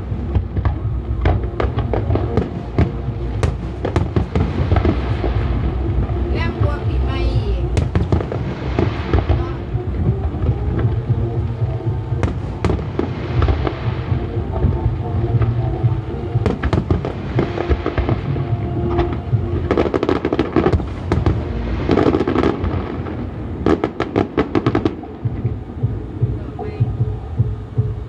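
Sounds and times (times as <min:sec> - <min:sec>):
fireworks bangs: 0:00.0 - 0:27.1
fireworks crackling: 0:00.0 - 0:28.0
low rumble: 0:00.0 - 0:28.0
music: 0:00.0 - 0:28.0.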